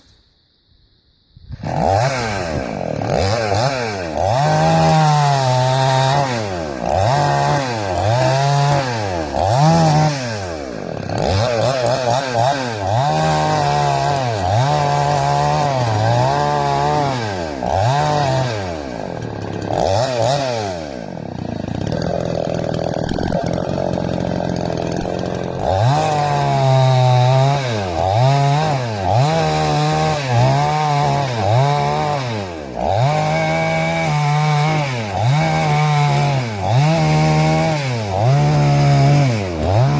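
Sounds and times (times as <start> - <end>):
chainsaw revving: 1.5 - 39.9.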